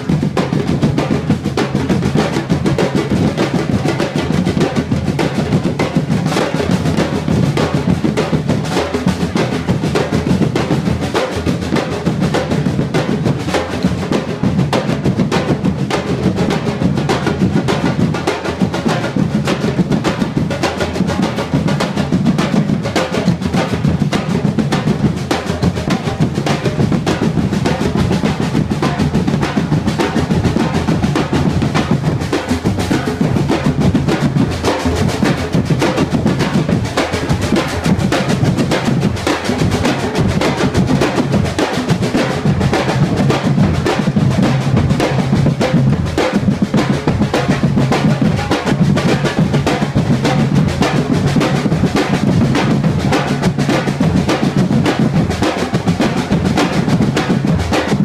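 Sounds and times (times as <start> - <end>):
drum ensemble playing: 0.0 - 58.0.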